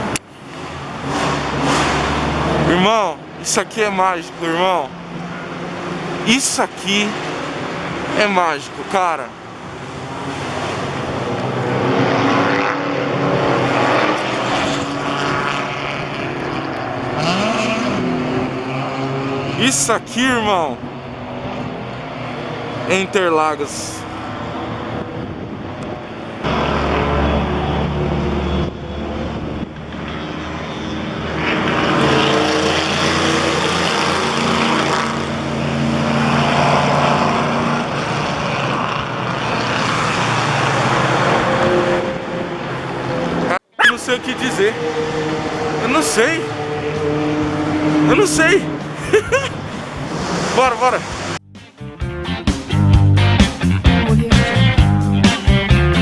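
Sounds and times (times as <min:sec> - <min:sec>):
race car engines droning: 0:00.0 - 0:51.8.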